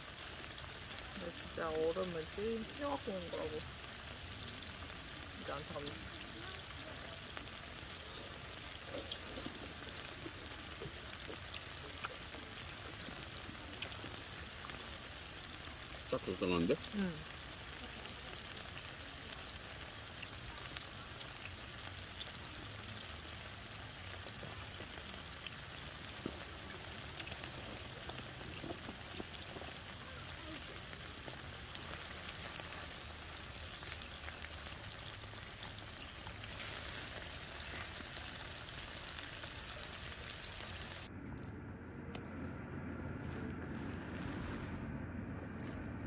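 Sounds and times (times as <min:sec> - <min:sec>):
meat sizzling in a pan: 0:00.0 - 0:41.1.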